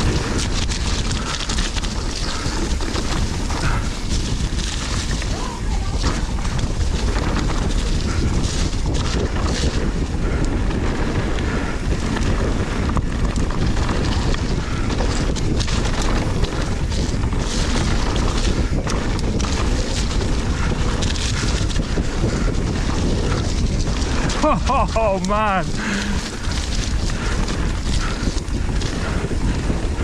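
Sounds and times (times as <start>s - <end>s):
bike knocks and rattles: 0.0s - 24.8s
tyre noise: 0.0s - 30.0s
wind on microphone: 0.0s - 30.0s.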